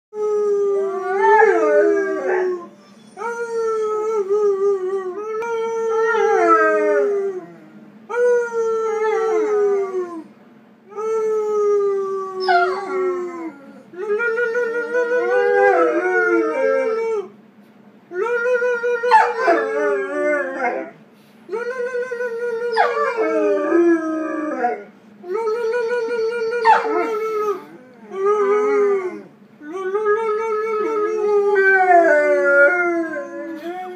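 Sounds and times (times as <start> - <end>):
dog howling: 0.2 - 10.3, 11.4 - 17.3, 18.1 - 21.0, 22.0 - 33.9.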